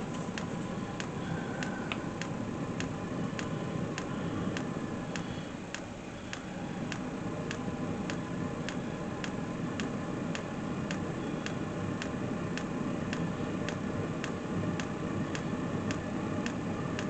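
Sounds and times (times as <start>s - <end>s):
fuel pump ticking: 0.0s - 17.0s
heater fan and exhaust rushing: 0.0s - 17.0s.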